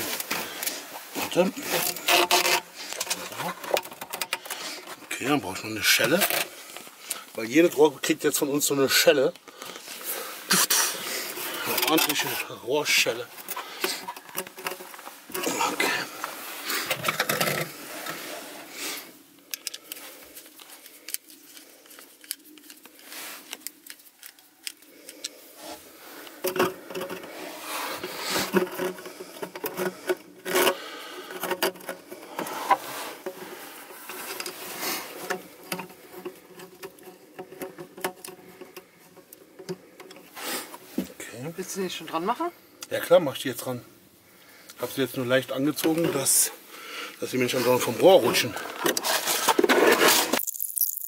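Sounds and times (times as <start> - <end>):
metal ducts clicking and crinkling: 0.0 - 18.2, 19.3 - 40.9, 47.1 - 51.0.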